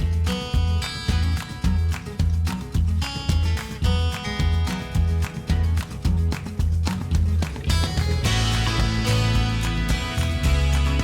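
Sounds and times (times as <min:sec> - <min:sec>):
steady bass beat: 0:00.0 - 0:11.0
strummed acoustic guitar: 0:00.0 - 0:11.0.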